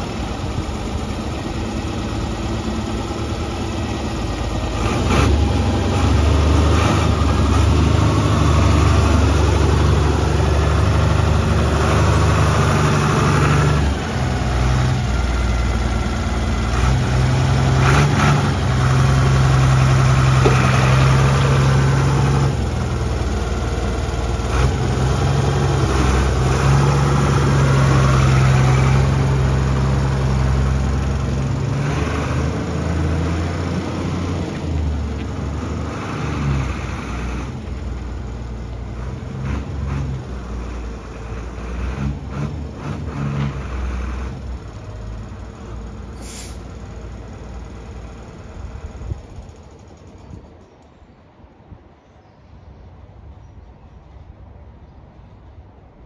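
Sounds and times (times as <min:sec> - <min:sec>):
diesel truck engine: 0:00.0 - 0:50.6.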